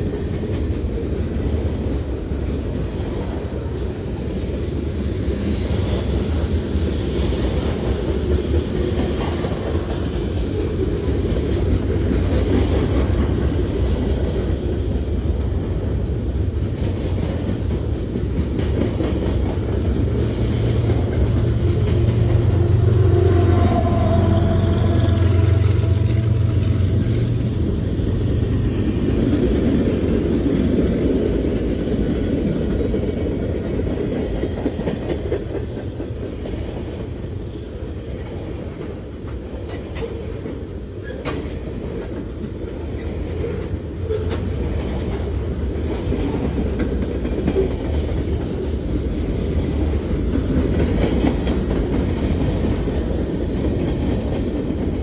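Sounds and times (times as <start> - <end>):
diesel locomotive engine drone: 0.0 - 55.0
train cars rumbling past: 0.0 - 55.0
wheels clacking over rail joints: 7.2 - 55.0.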